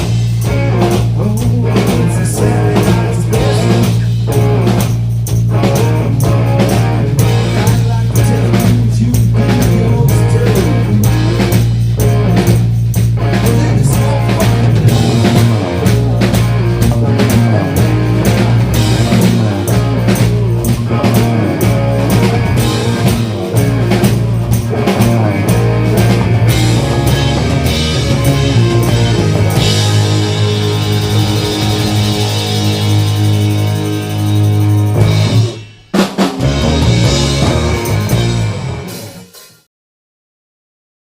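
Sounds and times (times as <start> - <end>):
drum kit beat: 0.0 - 39.6
bass guitar: 0.0 - 39.7
electric guitar: 0.0 - 39.7.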